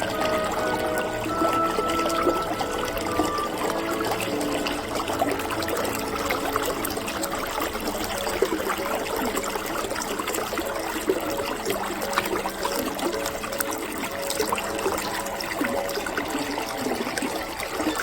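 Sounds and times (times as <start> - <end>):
creek running over stones: 0.0 - 18.0.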